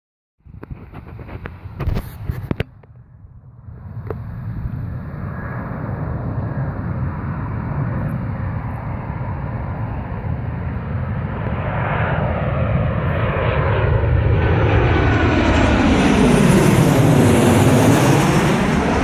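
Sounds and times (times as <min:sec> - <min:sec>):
jet airliner passing: 0:00.8 - 0:19.0.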